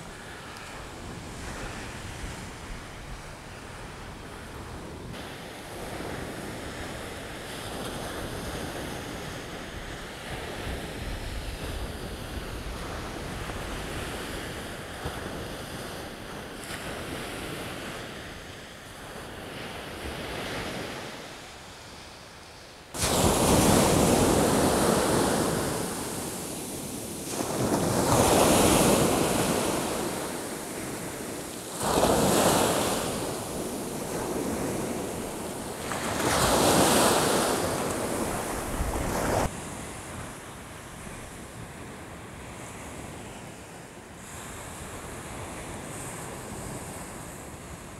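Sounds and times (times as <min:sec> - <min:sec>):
waves breaking on sandy beach: 0:00.0 - 0:47.9.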